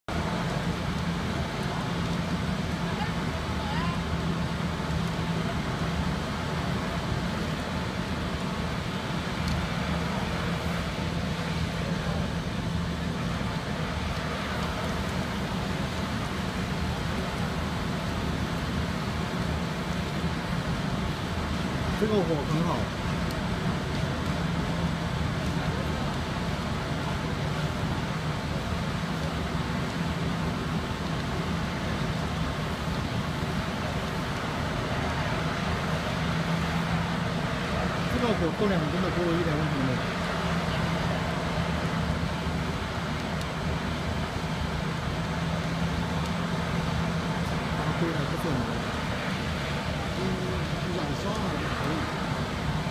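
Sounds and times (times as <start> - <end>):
burner flame rushing: 0.1 - 52.9.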